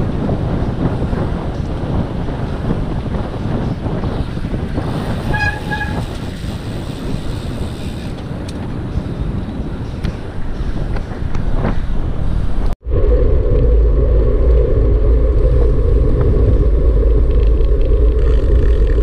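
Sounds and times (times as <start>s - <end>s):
vehicle driving on road: 0.0s - 19.0s.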